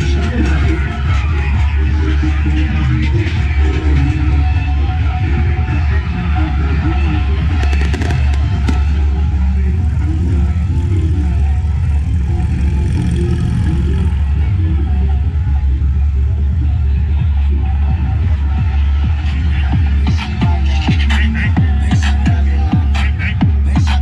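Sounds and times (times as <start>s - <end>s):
loud music with heavy bass: 0.0s - 24.0s.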